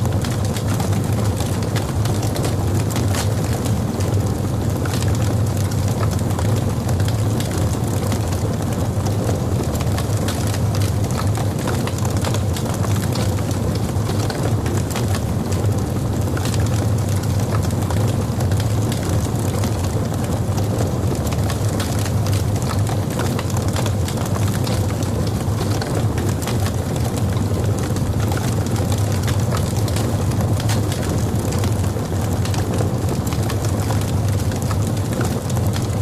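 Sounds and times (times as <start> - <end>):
fire crackling and popping: 0.0 - 36.0
rumble of flames: 0.0 - 36.0.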